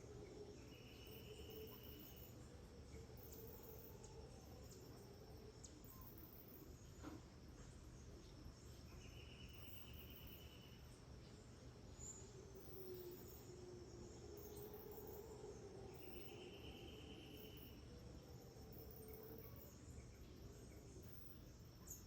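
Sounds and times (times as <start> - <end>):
insects high whine: 0.0 - 22.0.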